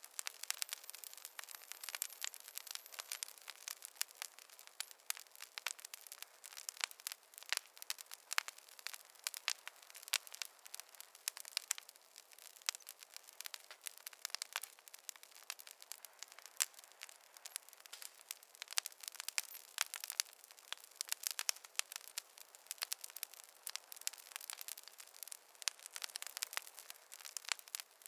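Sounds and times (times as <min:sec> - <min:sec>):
campfire crackling and popping: 0:00.0 - 0:28.0
soft fire hiss: 0:00.0 - 0:28.0.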